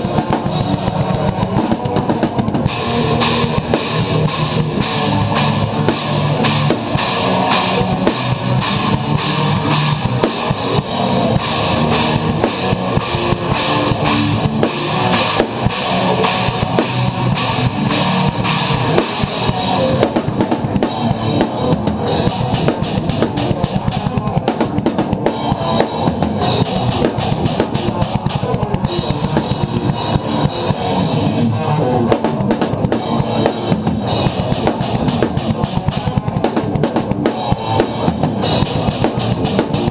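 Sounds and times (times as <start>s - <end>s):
progressive metal music: 0.0s - 39.9s
rock drum kit playing: 0.0s - 39.9s.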